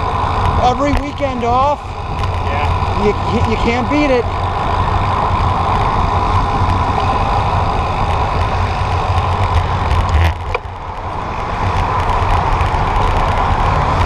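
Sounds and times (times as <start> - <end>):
road rumble: 0.0 - 14.0
wind rush on microphone: 0.0 - 14.0.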